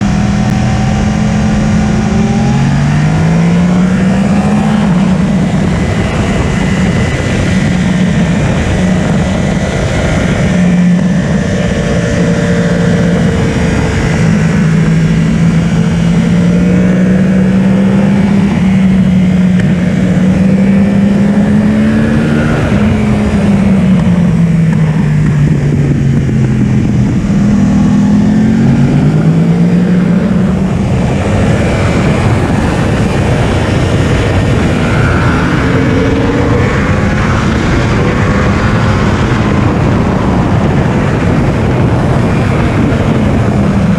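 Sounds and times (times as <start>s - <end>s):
motorcycle engine revving: 0.0s - 43.9s
wind rush: 0.0s - 43.9s.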